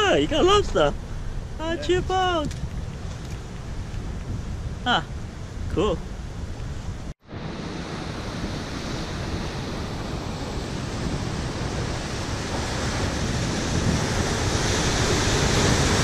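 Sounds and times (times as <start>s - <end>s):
ocean surf rushing: 0.0s - 2.4s, 3.4s - 16.0s
wind buffeting microphone: 0.0s - 16.0s.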